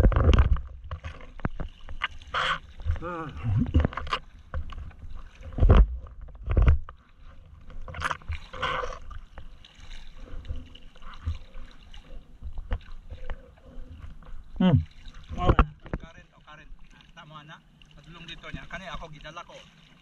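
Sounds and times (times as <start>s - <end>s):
sea water splashing: 0.0s - 20.0s.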